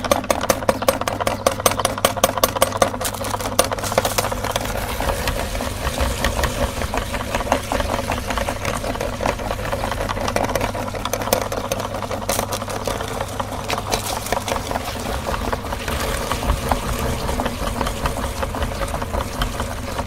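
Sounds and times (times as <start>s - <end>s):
crackling clicks of crushing: 0.0s - 20.0s
meat grinder motor hum: 0.0s - 20.0s.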